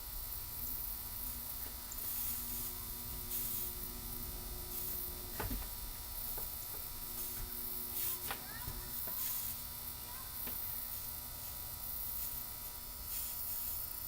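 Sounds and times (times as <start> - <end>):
soldering gun humming: 0.0 - 14.0.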